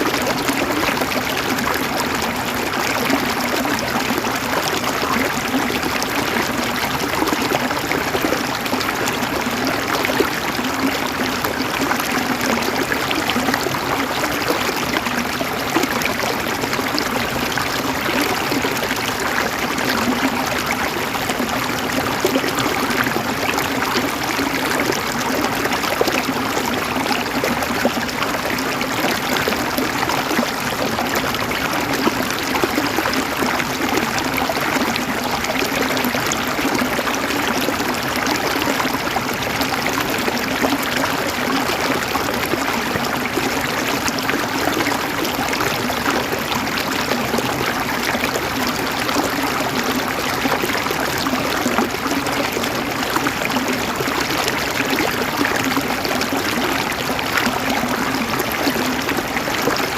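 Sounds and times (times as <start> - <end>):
river water running over stones: 0.0 - 59.9.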